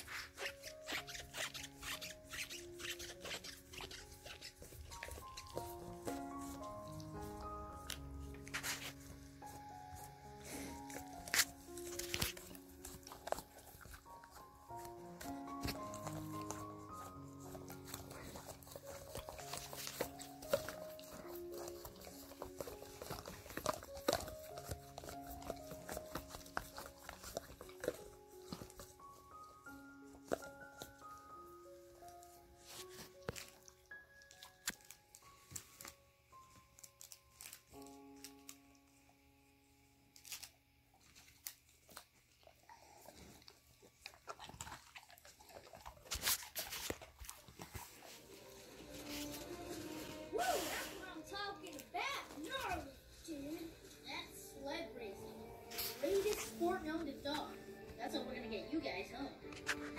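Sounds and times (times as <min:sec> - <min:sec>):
dog chewing and crunching: 0:00.0 - 0:39.2, 0:40.0 - 0:50.3, 0:51.2 - 0:54.0
background music: 0:00.0 - 0:59.9.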